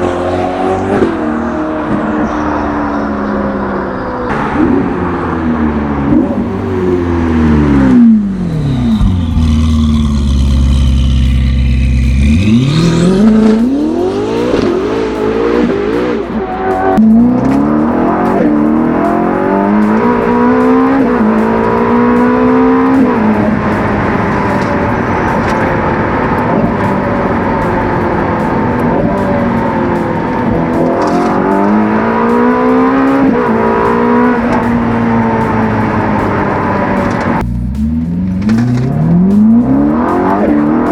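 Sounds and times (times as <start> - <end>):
sports car engine revving: 0.0 - 40.9.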